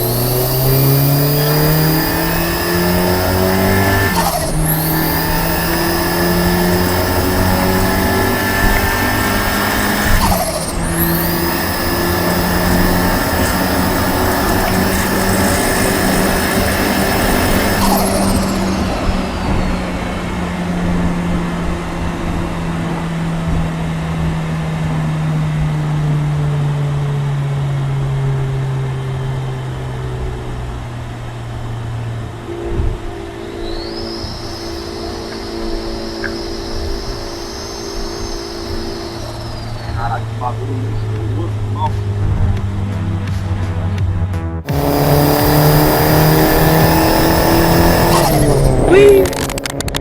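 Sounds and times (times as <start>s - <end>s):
car engine running: 0.0s - 50.0s.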